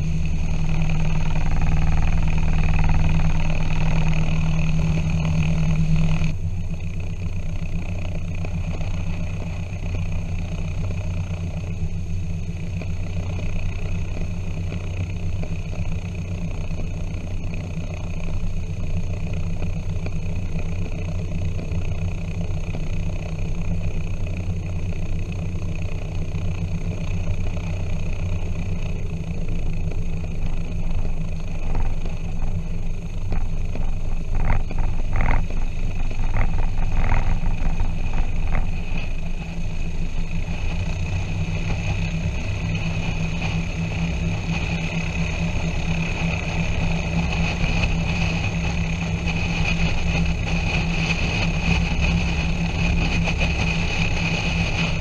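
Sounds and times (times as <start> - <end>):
propeller engines droning in cabin: 0.0 - 55.0.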